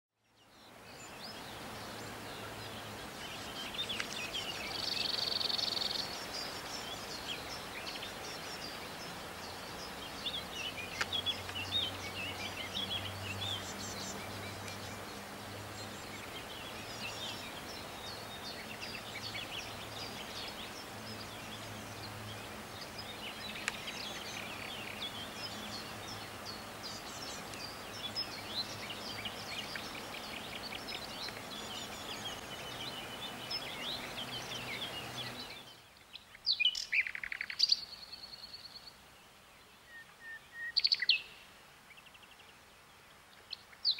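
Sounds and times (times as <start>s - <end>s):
outdoor background noise: 0.1s - 43.9s
birds chirping and singing: 0.4s - 38.9s.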